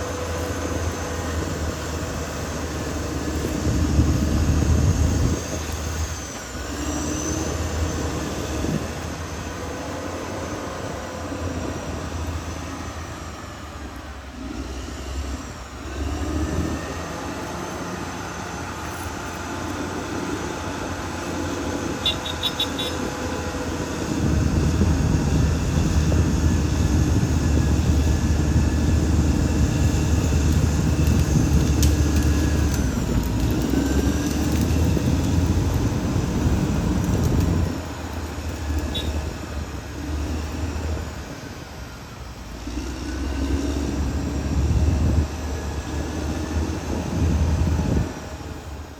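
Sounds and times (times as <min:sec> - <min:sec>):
bulldozer diesel engine: 0:00.0 - 0:48.9.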